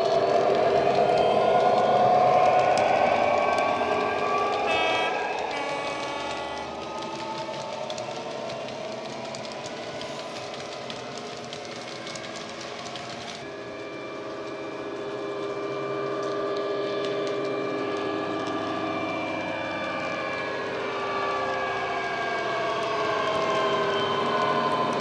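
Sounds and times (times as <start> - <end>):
wheels clicking on rails: 0.0 - 25.0.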